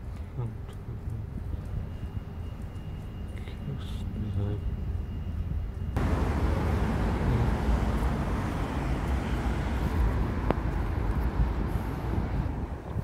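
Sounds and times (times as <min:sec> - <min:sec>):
low urban background rumble: 0:00.0 - 0:13.0.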